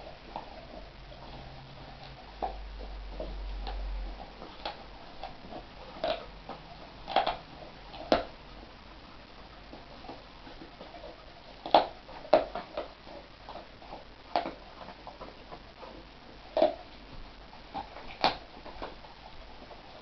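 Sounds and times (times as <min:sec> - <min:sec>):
dog gnawing bone: 0:00.0 - 0:20.0.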